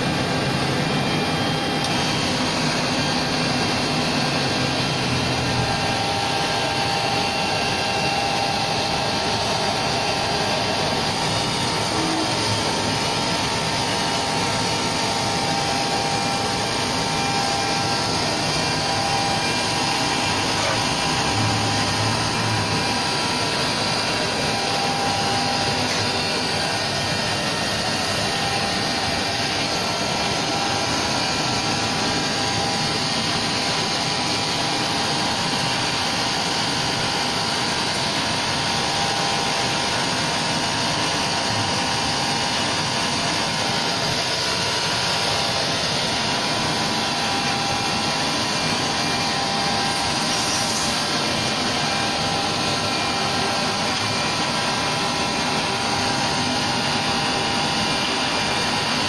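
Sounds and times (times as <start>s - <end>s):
router machining wood: 0.0s - 59.0s.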